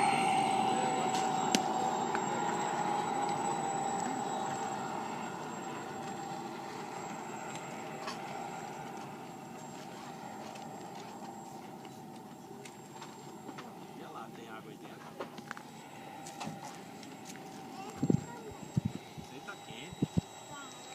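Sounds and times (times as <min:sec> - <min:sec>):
model jet airplane passing: 0:00.0 - 0:20.9.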